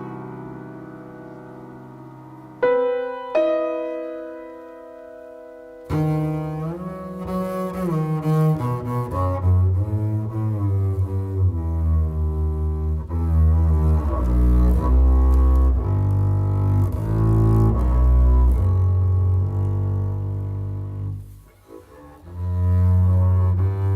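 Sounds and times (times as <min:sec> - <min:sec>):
bowed double bass notes: 0:00.0 - 0:23.9.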